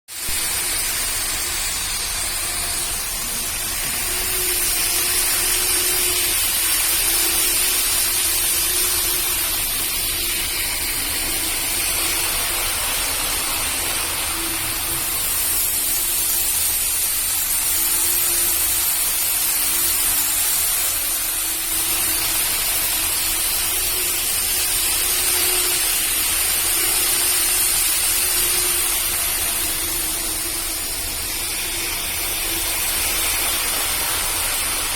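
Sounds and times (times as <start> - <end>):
model trains whirring on track: 0.1 - 34.9.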